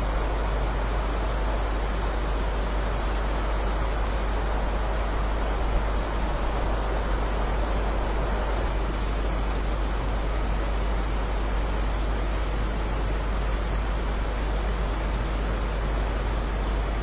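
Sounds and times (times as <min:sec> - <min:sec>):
steady heavy rain: 0:00.0 - 0:17.0.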